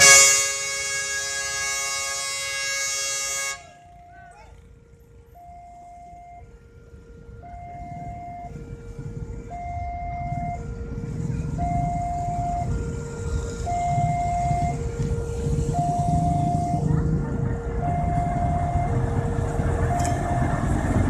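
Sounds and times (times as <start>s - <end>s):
diesel locomotive engine rumble: 0.0s - 21.0s
two-tone crossing alarm: 0.0s - 21.0s.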